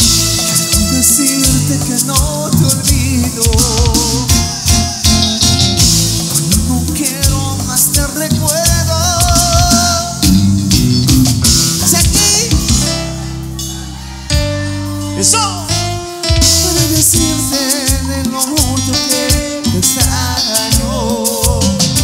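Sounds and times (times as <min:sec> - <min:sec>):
live band playing cumbia: 0:00.0 - 0:22.0.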